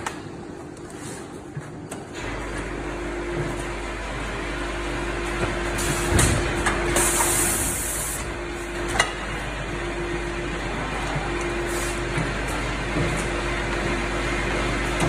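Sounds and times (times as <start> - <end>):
packing machine humming: 0.0 - 15.0.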